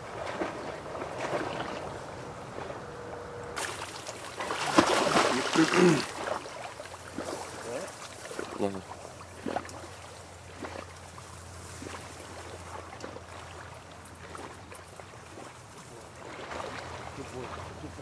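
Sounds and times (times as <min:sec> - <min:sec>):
low steady hum: 0:00.0 - 0:18.0
water sloshing and splashing: 0:00.0 - 0:18.0.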